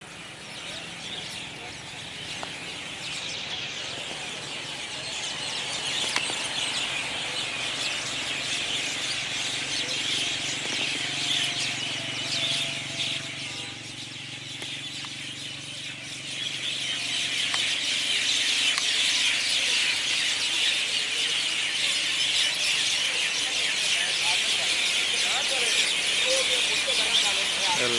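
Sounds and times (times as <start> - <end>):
flock of birds twittering: 0.0 - 27.9.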